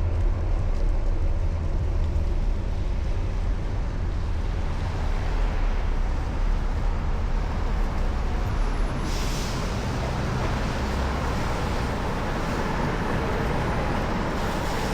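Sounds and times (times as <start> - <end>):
traffic rumble: 0.0 - 14.9.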